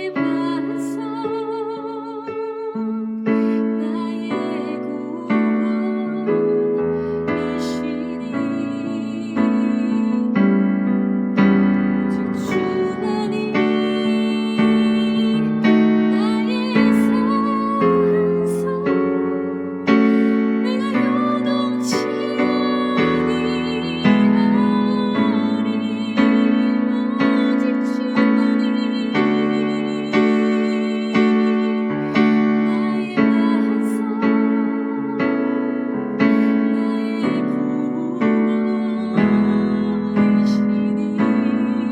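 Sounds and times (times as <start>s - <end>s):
slow piano chords: 0.0s - 41.9s.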